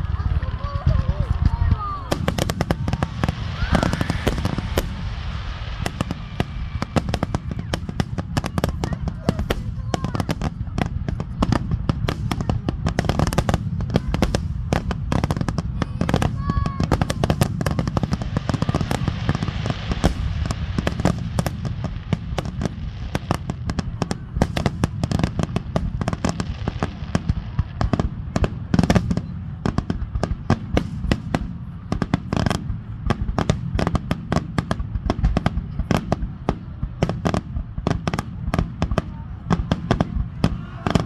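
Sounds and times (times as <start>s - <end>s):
fireworks bursting: 0.0s - 41.0s.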